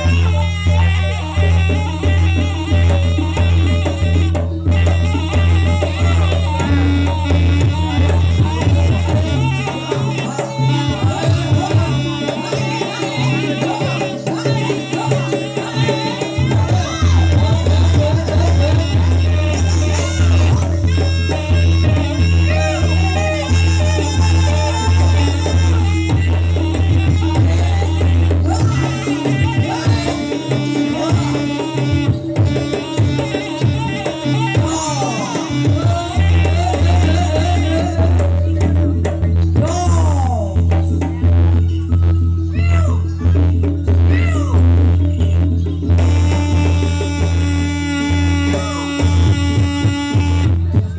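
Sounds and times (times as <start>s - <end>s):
hand drums playing rapid rhythm: 0.0s - 50.9s
percussion-led music with heavy bass: 0.0s - 50.9s.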